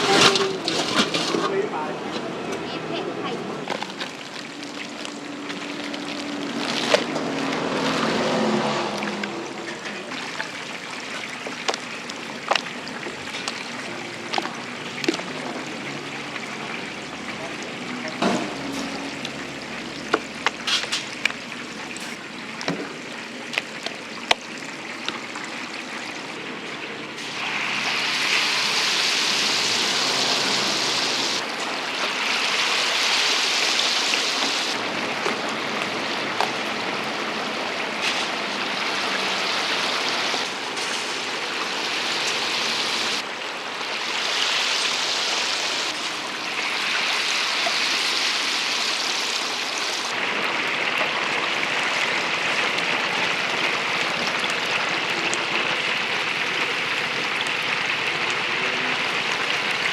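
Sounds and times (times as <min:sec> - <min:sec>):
food deep-frying in oil: 0:03.7 - 0:59.9.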